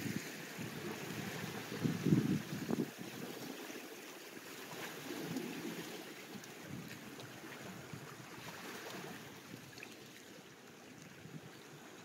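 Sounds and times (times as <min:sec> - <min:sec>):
waves lapping against rocks: 0:00.0 - 0:12.0.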